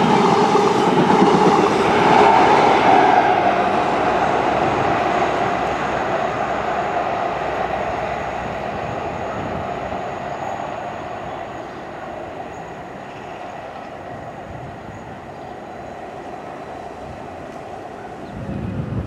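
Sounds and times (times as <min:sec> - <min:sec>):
passenger train running past: 0:00.0 - 0:19.0.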